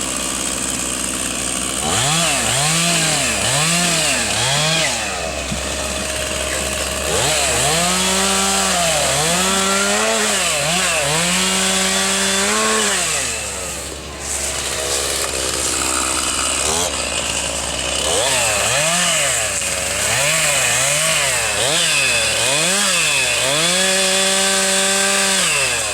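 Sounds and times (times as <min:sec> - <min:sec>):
chainsaw engine revving: 0:00.0 - 0:25.9.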